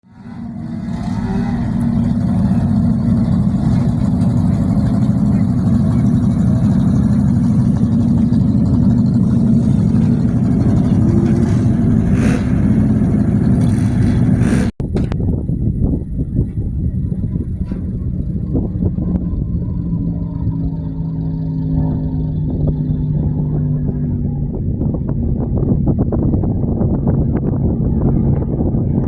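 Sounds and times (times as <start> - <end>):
racing vehicle engine running: 0.0 - 29.0.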